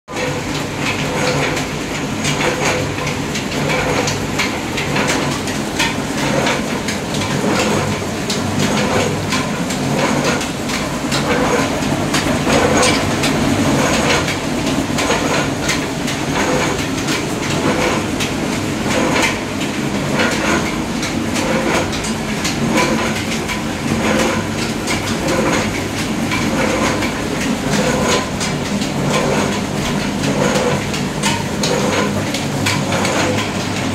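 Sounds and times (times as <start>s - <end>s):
oil expeller machine humming: 0.1s - 33.9s.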